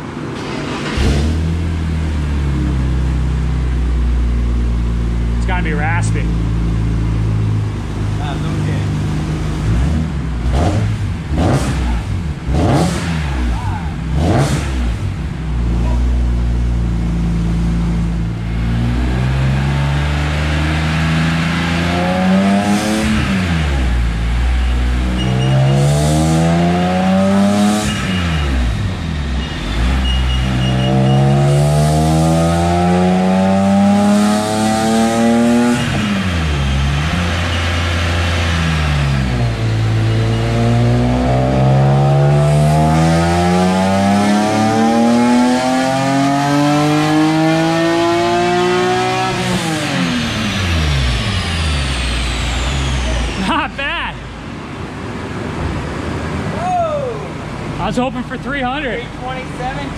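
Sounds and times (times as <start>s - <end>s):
race car engine revving on dyno: 0.0s - 3.4s, 5.4s - 54.0s.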